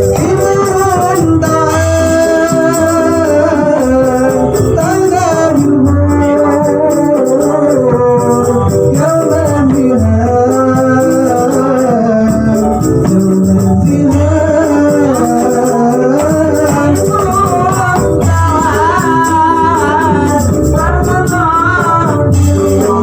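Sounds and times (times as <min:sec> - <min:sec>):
hand drums with jingles: 0:00.0 - 0:23.0
person singing devotional melody: 0:00.0 - 0:23.0.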